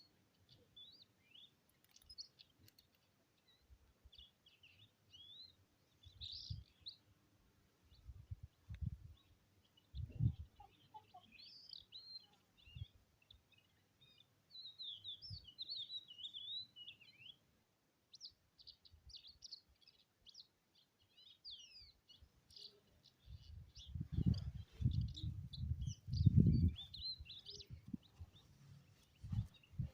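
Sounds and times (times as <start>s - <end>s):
small songbirds chirping: 0.0s - 29.9s.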